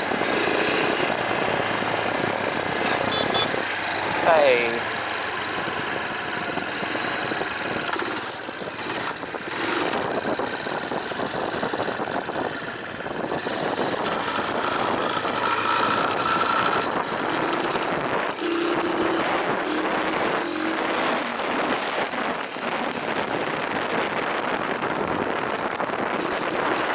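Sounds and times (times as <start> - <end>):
dirt bike engine running: 0.0 - 26.9.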